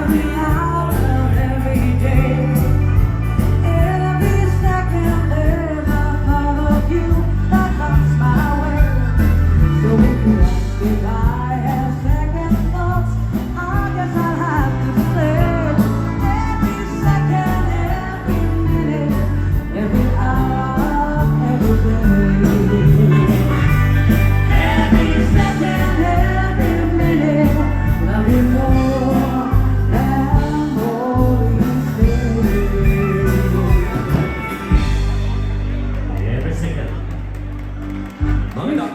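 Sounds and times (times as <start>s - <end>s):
person singing: 0.0s - 23.8s, 24.4s - 35.4s
dance band playing rock and roll: 0.0s - 38.6s.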